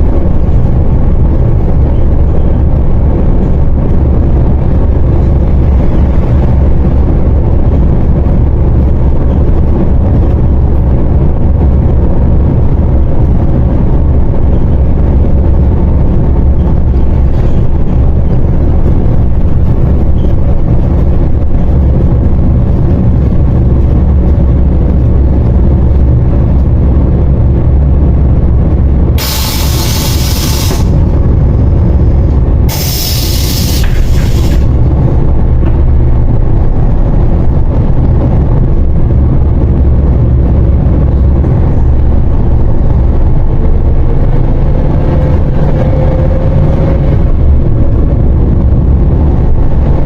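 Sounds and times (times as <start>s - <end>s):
bus diesel engine drone: 0.0s - 50.0s.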